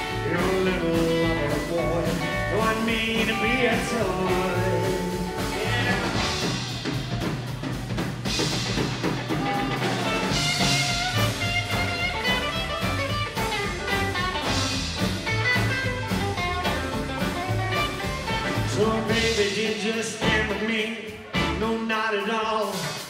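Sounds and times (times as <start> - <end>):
bass line: 0.0 - 23.0
drum kit beat: 0.0 - 23.0.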